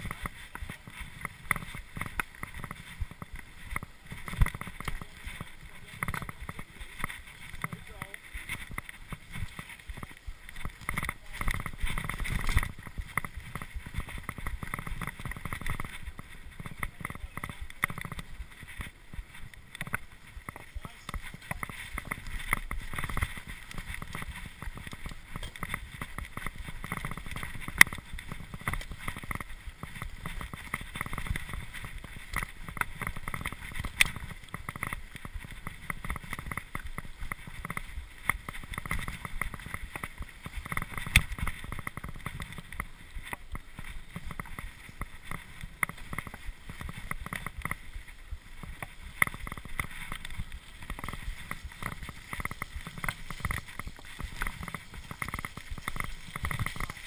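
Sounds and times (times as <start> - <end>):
bike tyres and frame rattling: 0.0 - 57.0.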